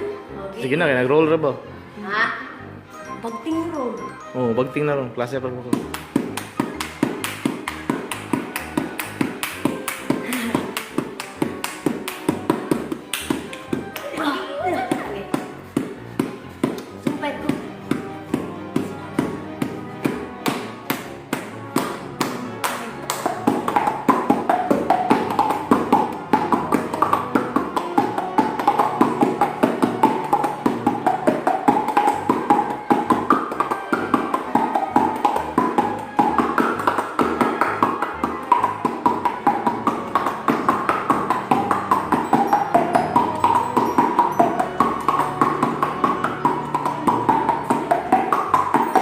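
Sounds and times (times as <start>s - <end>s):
rhythmic hand tapping: 5.5s - 49.0s.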